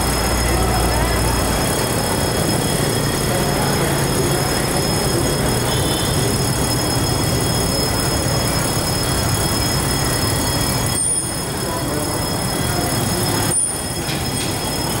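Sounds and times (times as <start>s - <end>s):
pump high whine: 0.0s - 15.0s.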